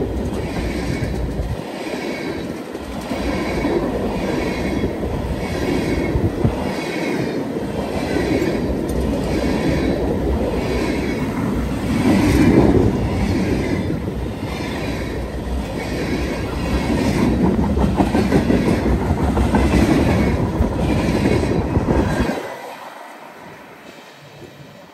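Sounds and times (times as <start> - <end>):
freight train wheels clattering: 0.0 - 22.6.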